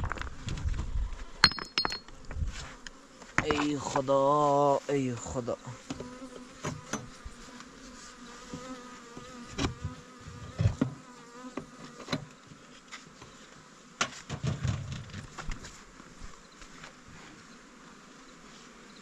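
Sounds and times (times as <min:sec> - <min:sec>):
honeybees buzzing: 0:02.2 - 0:19.0.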